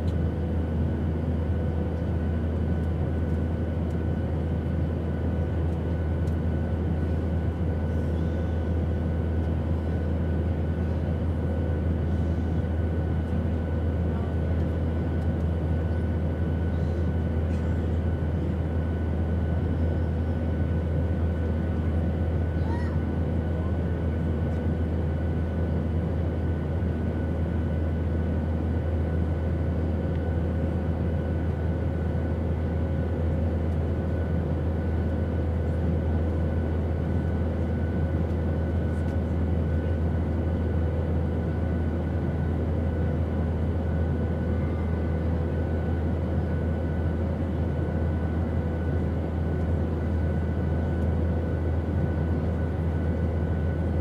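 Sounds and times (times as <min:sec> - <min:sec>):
airplane drone: 0:00.0 - 0:54.0.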